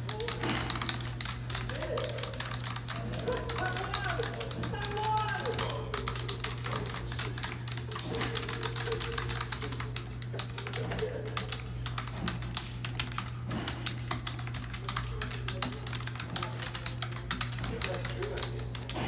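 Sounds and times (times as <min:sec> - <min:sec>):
typing on keyboard: 0:00.0 - 0:19.0.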